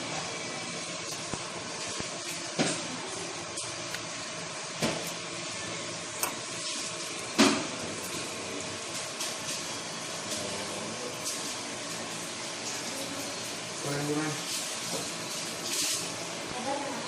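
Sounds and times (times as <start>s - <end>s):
rushing kitchen noise: 0.0s - 17.0s.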